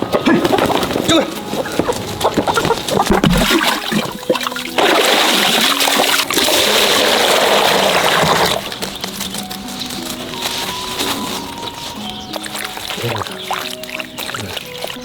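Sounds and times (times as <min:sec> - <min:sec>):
running water splashing: 0:00.0 - 0:15.0.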